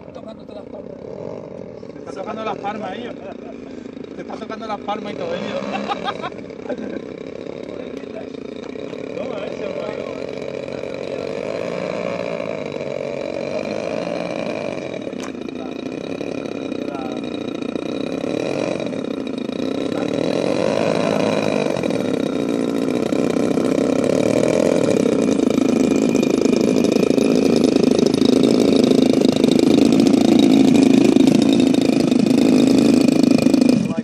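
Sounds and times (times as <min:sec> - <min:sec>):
model airplane engines running: 0:00.0 - 0:34.0.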